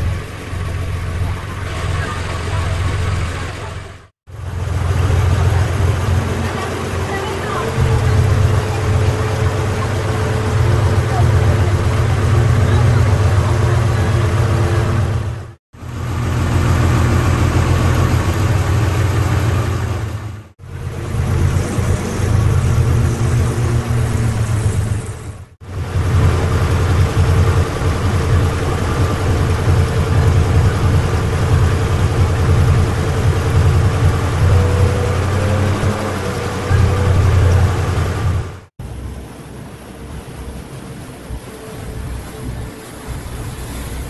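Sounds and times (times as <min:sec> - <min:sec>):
boat engine rumbling: 0:00.0 - 0:44.0
water and wind hissing: 0:00.0 - 0:44.0.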